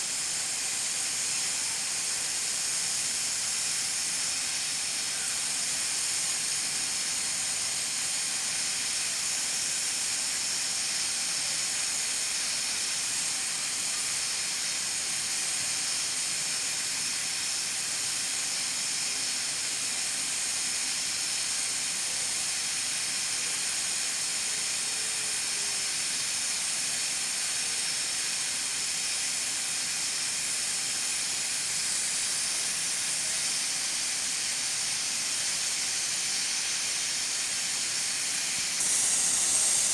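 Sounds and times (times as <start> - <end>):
pressure cooker steam hissing: 0.0 - 39.9.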